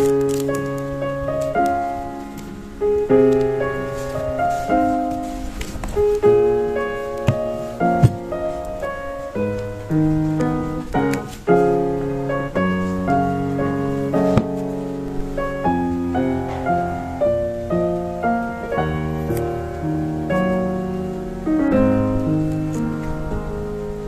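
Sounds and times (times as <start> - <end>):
instrumental piano music: 0.0 - 24.0.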